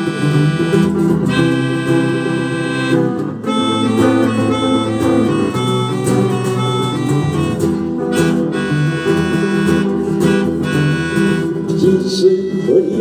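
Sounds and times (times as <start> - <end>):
rock band instrumental: 0.0 - 11.6
guitar strumming: 0.0 - 13.0.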